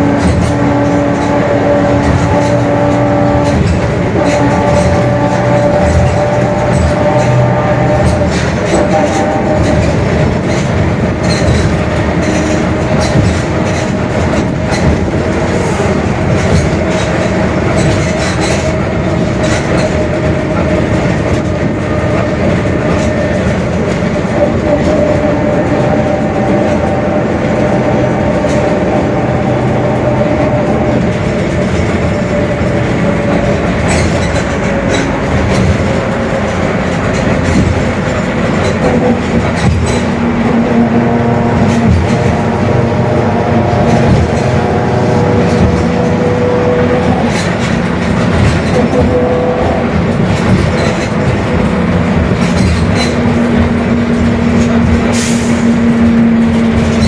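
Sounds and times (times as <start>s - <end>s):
bus engine and road rumble: 0.0s - 57.0s
rattles and knocks: 0.0s - 57.0s.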